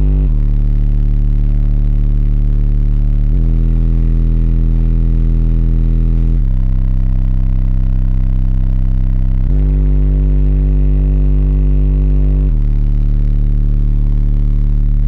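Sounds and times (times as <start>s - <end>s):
deep subwoofer bass notes: 0.0s - 15.0s.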